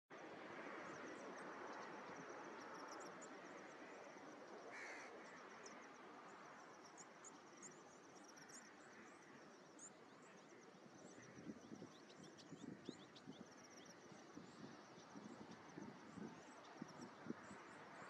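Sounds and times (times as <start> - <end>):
small birds chirping: 1.7 - 18.0.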